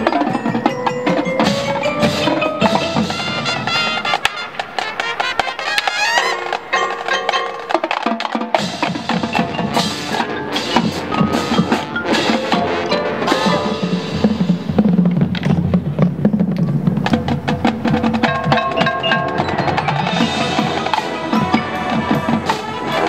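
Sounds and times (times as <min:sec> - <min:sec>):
mallet percussion rising runs: 0:00.0 - 0:03.4, 0:06.5 - 0:15.2, 0:16.3 - 0:23.0
marching band playing: 0:00.0 - 0:23.0.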